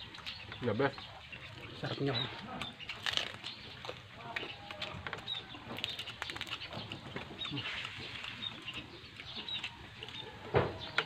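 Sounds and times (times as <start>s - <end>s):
birds chirping: 0.0s - 11.0s
crunching and chewing: 0.0s - 11.0s.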